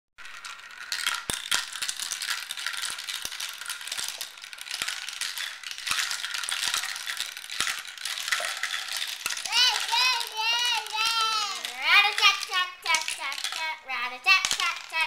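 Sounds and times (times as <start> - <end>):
marbles rattling in a plastic marble run: 0.2 - 15.0.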